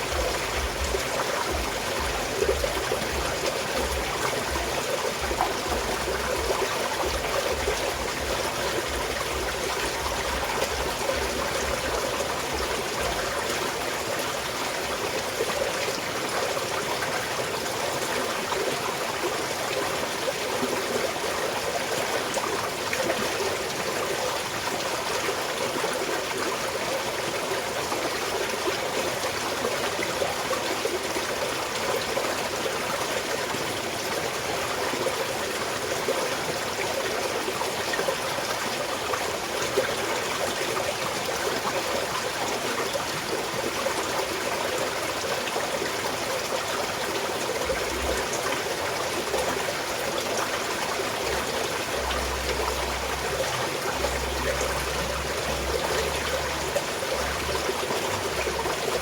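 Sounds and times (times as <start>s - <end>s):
stream trickling over rocks: 0.0s - 59.0s.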